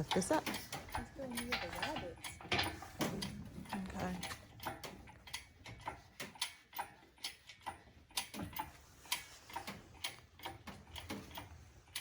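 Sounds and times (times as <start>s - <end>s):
lifting rig clicking: 0.0s - 12.0s.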